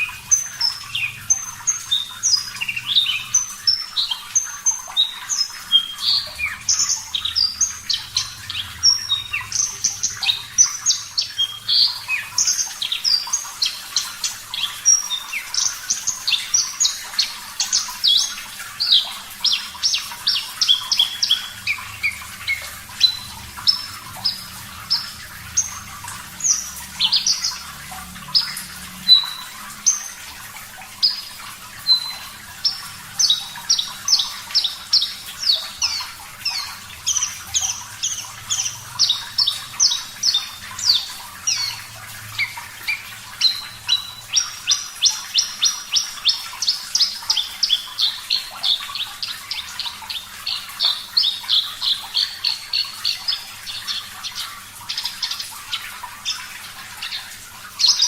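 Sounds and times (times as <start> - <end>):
bird singing: 0.0 - 58.0
faint running water: 0.0 - 58.0.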